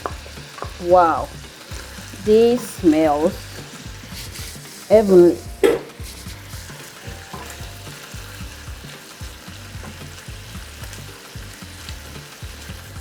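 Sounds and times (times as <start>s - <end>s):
prawns sizzling in a pan: 0.0s - 13.0s
stirring knocks: 0.0s - 13.0s.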